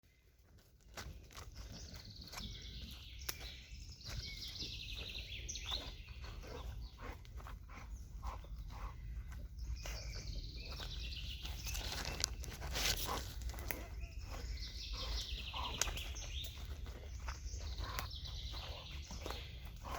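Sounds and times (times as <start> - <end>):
songbirds singing trills: 0.0 - 19.9.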